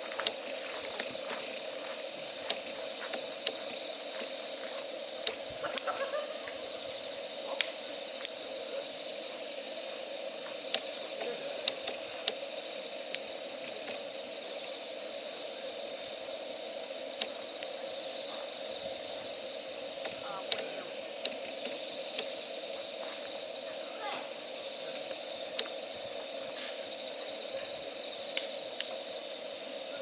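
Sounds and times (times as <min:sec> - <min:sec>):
campfire crackling and popping: 0:00.0 - 0:15.2, 0:15.8 - 0:29.8
high hiss of fire: 0:00.0 - 0:30.0.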